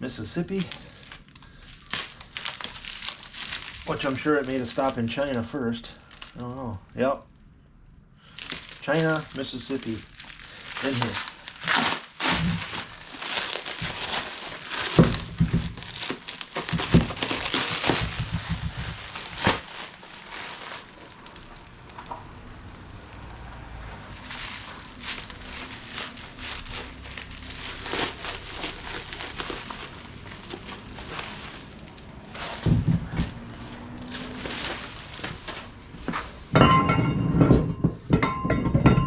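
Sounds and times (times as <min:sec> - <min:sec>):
plastic packaging crinkling and tearing: 0:00.0 - 0:06.8, 0:08.2 - 0:36.6.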